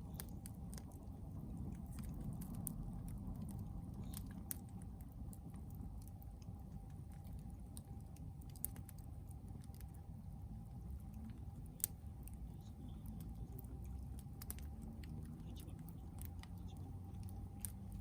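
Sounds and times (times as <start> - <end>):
burning wood popping and snapping: 0.0 - 10.5, 11.1 - 18.0.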